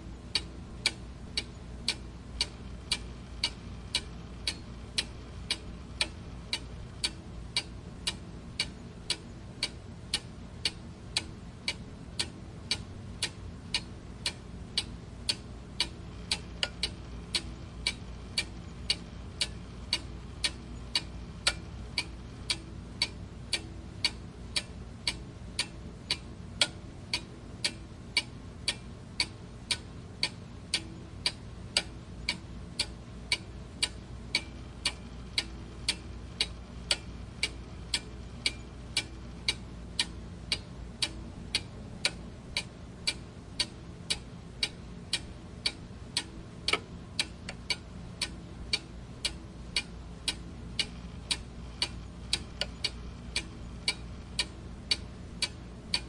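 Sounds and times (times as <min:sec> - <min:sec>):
faint low hum: 0:00.0 - 0:56.0
mechanical clock ticking: 0:00.2 - 0:56.0.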